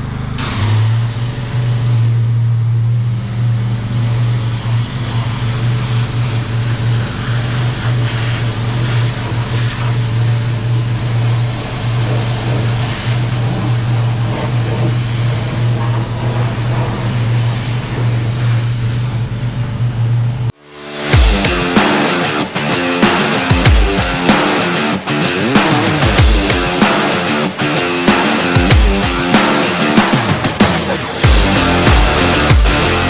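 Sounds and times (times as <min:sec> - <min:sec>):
pressure washer engine running: 0:02.7 - 0:33.0
water spray hissing: 0:04.2 - 0:19.8, 0:20.7 - 0:33.0.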